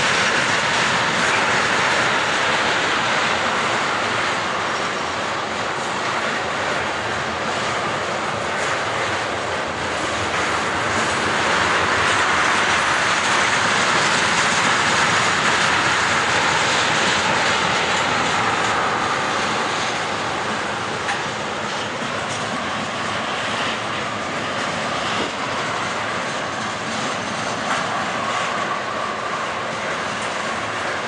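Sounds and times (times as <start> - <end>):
steel wheels on rails: 0.0 - 31.0.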